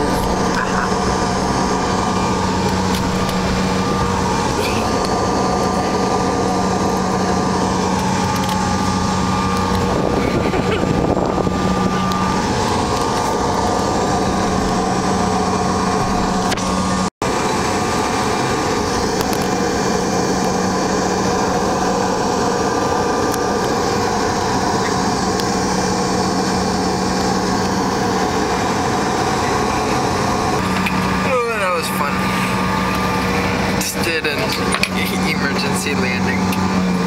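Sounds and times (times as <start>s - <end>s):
jet airliner cabin drone: 0.0s - 37.0s.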